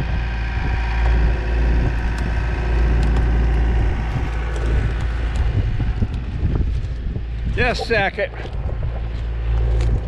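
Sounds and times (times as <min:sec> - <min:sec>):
machine engine running: 0:00.0 - 0:10.0.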